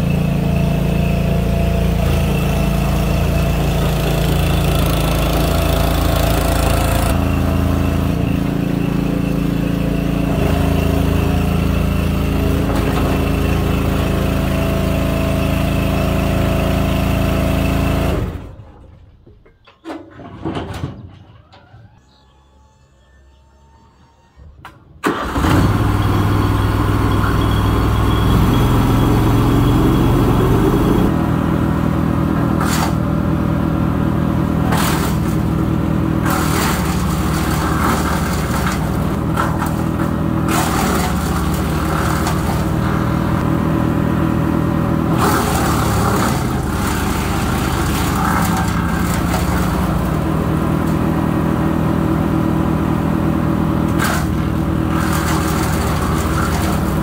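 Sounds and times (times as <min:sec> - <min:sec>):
wood chipper engine running: 0:00.0 - 0:19.1, 0:25.0 - 0:57.0.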